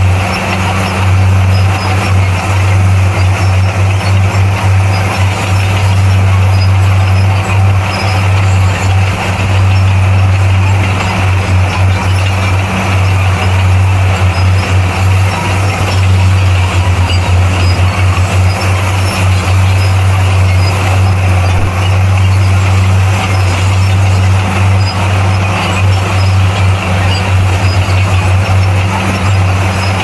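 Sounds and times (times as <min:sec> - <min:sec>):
bulldozer diesel engine droning: 0:00.0 - 0:30.0.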